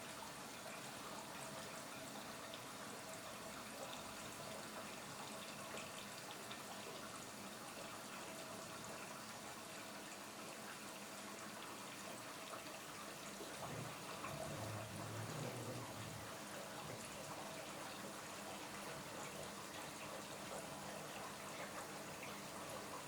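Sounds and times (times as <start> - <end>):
water running into washing machine: 0.0 - 23.0.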